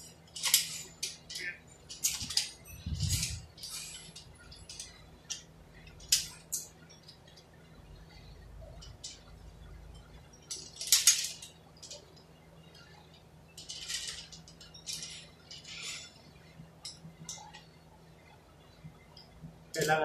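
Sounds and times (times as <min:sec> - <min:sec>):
metal parts clinking and rattling: 0:00.0 - 0:07.5, 0:08.7 - 0:17.7.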